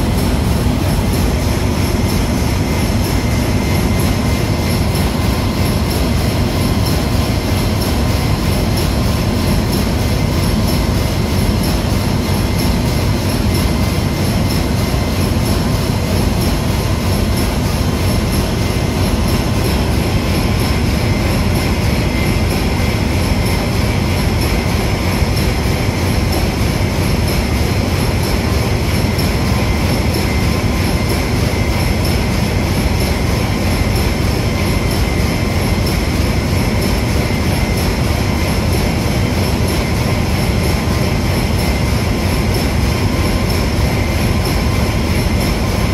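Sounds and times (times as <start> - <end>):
heavy engine room machinery: 0.0 - 45.9.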